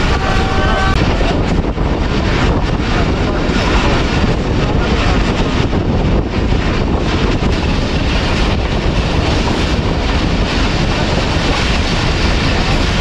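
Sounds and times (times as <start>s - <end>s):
train wheels rumbling on rails: 0.0s - 13.0s
wind buffeting microphone: 0.0s - 13.0s.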